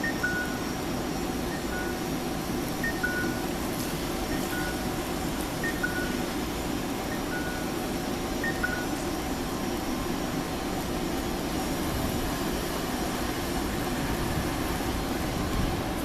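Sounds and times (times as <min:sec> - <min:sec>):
tram hum and rumble: 0:00.0 - 0:16.0.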